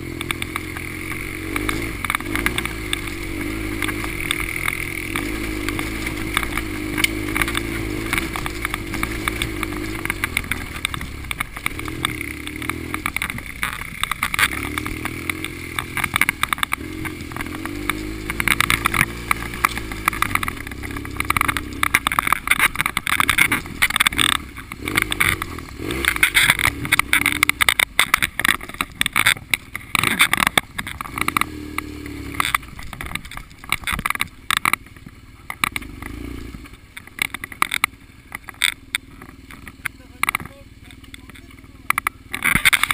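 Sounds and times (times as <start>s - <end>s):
bike knocks and rattles: 0.0s - 42.9s
motorcycle engine revving: 0.0s - 42.9s.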